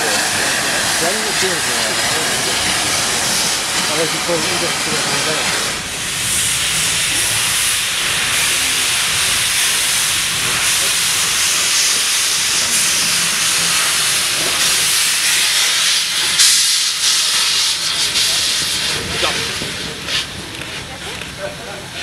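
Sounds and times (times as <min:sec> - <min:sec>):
steam safety valves hissing: 0:00.0 - 0:20.8
steam gushing from cylinders: 0:00.0 - 0:22.0.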